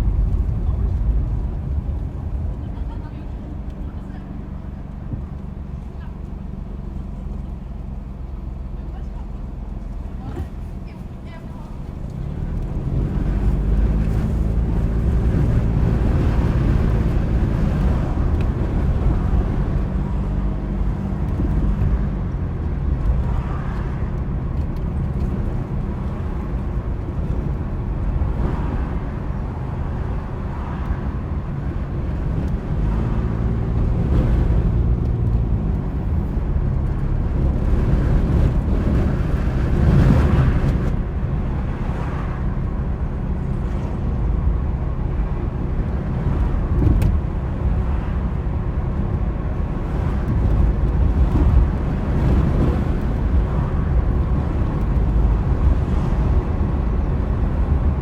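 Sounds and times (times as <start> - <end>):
car engine: 0.0 - 58.0
road and tyre rumble: 0.0 - 58.0.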